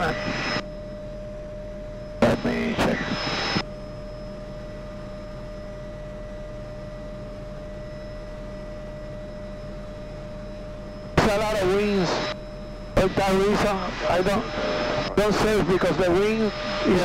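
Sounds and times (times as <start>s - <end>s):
helicopter turbine and rotor drone: 0.0s - 17.0s
high turbine whine: 0.0s - 17.0s.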